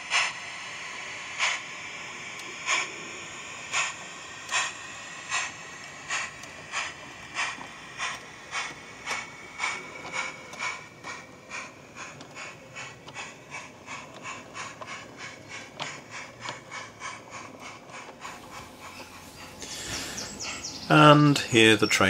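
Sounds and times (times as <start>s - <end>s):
model train clicking on track: 0.0s - 22.0s.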